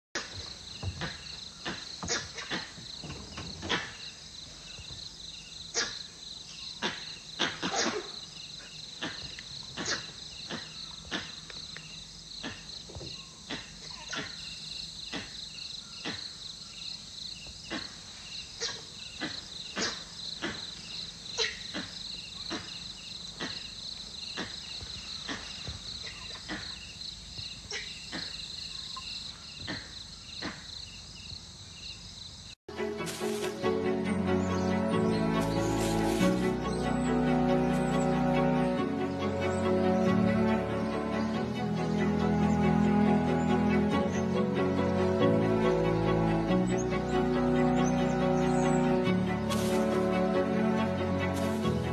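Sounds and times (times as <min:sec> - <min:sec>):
insects chirring: 0:00.2 - 0:51.9.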